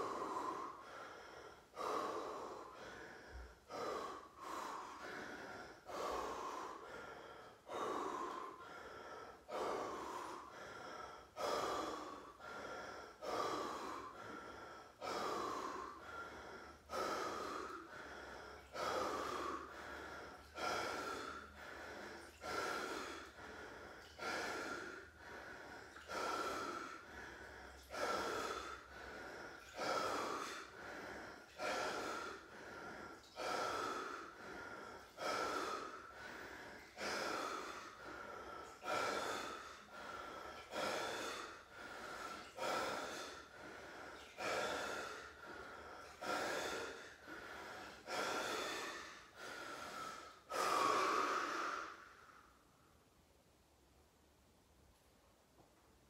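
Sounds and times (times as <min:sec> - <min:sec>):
man breathing hard: 0:00.0 - 0:53.2.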